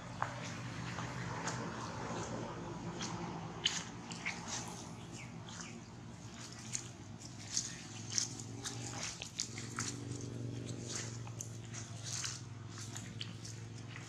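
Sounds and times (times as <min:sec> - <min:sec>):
footsteps on dry leaves: 0:00.0 - 0:14.0.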